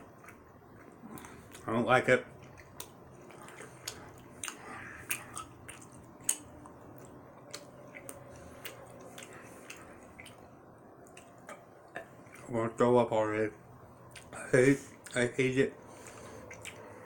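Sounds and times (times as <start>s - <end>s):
person chewing gummy candy: 0.0s - 12.5s, 14.0s - 15.2s, 15.9s - 17.0s.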